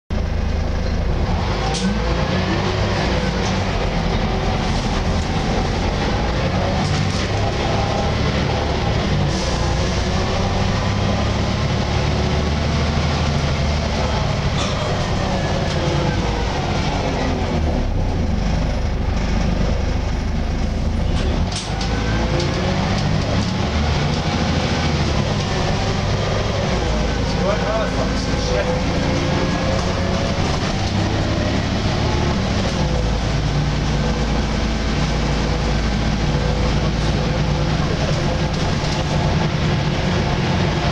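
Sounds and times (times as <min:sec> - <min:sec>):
bus diesel engine drone: 0:00.1 - 0:40.9
road noise: 0:00.1 - 0:40.9.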